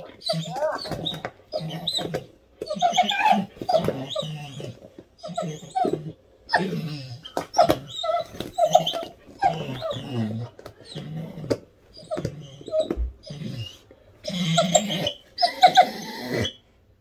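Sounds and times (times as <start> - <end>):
dog whining: 0.0 - 16.7.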